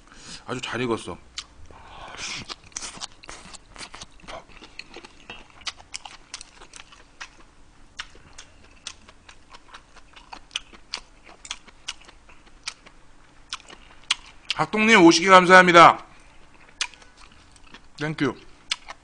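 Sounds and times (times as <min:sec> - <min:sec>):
close chewing with mouth clicks: 0:01.4 - 0:14.6, 0:16.2 - 0:18.0, 0:18.6 - 0:19.0.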